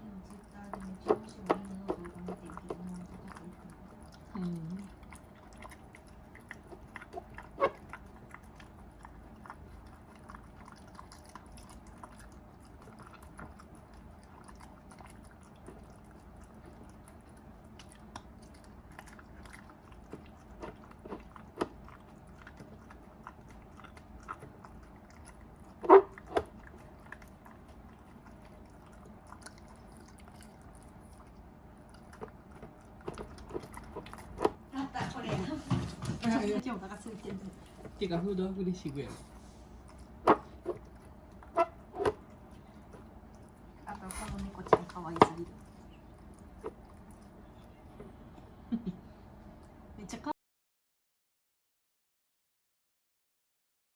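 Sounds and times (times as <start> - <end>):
dog chewing: 0.0 - 48.6.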